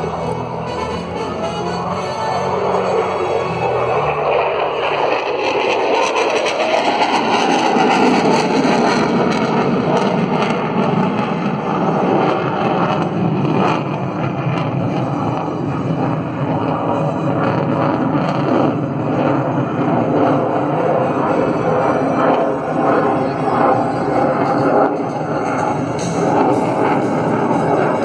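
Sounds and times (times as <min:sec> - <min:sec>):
jet engine rumble with crackle: 0:02.5 - 0:28.0.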